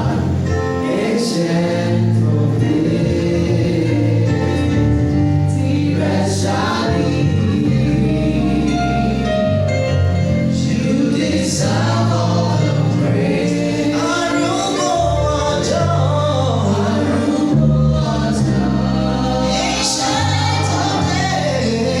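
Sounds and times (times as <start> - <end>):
group singing gospel: 0.0 - 22.0
low bass notes: 0.0 - 22.0.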